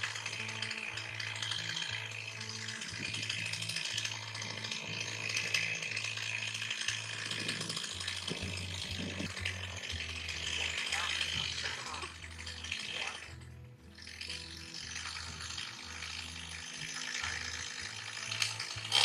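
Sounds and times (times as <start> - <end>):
low bass line: 0.0 - 19.0.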